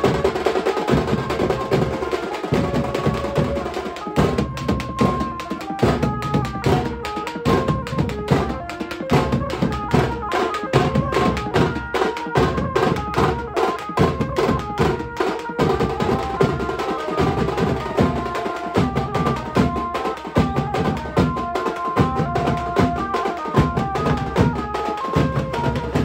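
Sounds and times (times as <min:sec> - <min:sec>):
fast drumming: 0:00.0 - 0:26.0.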